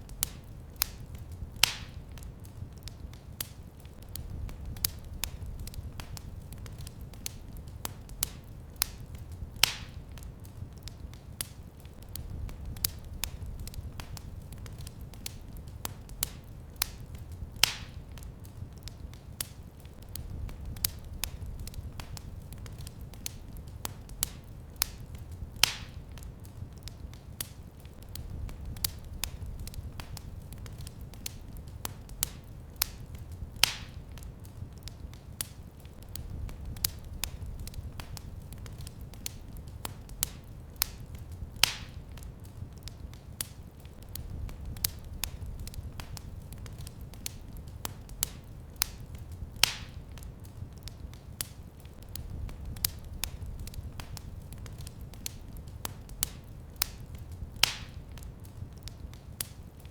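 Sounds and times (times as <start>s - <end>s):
loud pops from fire: 0.0s - 59.9s
low rumble of flame: 0.0s - 59.9s
wood fire crackling: 0.0s - 59.9s.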